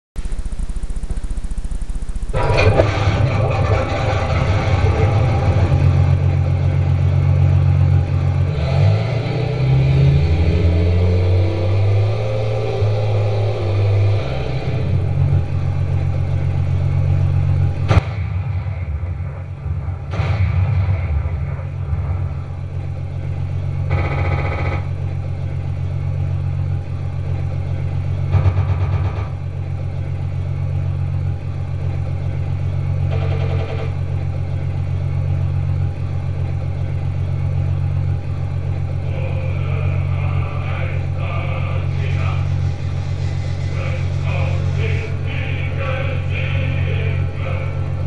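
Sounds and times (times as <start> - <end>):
simulated tank engine rumble: 0.2 - 48.0.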